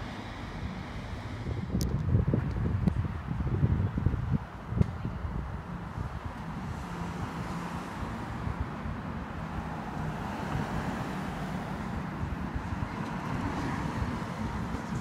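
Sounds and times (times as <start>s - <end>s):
road traffic hum: 0.0s - 15.0s
wind buffeting microphone: 0.0s - 15.0s.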